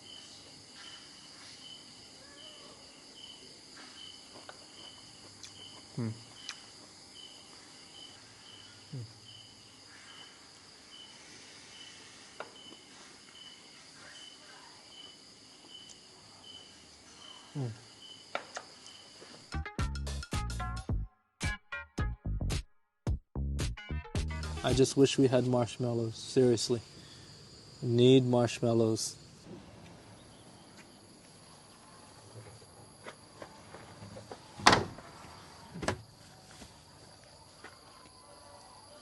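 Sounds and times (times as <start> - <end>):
crickets chirping: 0.0 - 19.6, 24.5 - 39.0
high insect drone: 0.0 - 19.6, 24.6 - 39.0.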